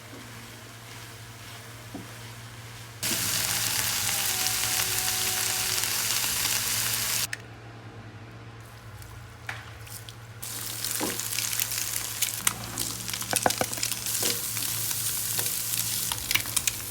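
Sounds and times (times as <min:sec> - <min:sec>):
food sizzling in hot oil: 0:00.0 - 0:07.3, 0:10.4 - 0:16.9
faint kitchen noise: 0:00.0 - 0:16.9.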